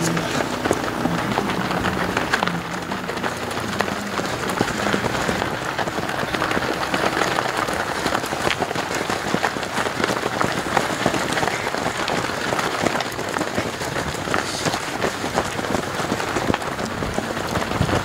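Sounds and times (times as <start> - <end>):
runners footfalls on grass and gravel: 0.0 - 18.0
spectators clapping: 0.0 - 18.0.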